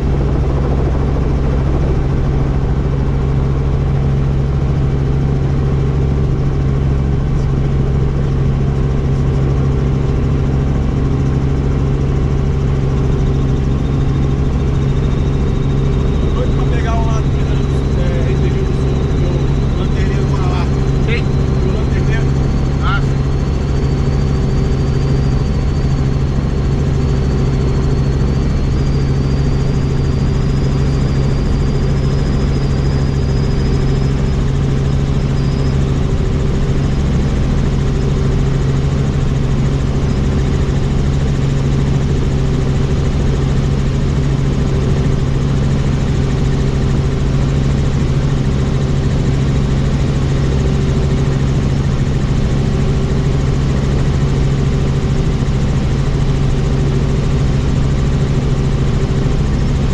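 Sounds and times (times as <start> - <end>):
faint high whine: 0.0 - 59.9
helicopter engine and rotor: 0.0 - 59.9.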